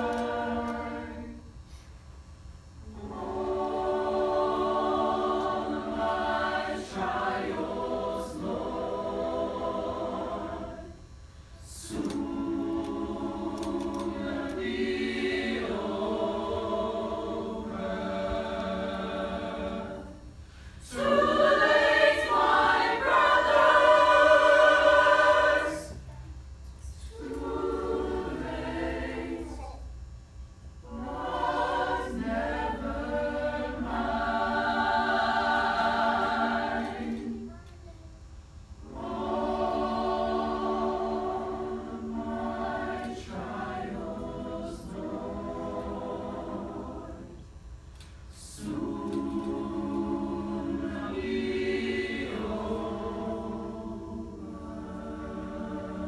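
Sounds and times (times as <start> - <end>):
mixed choir singing: 0.0 - 1.5, 2.8 - 26.2, 26.9 - 29.8, 30.8 - 37.6, 38.8 - 56.0.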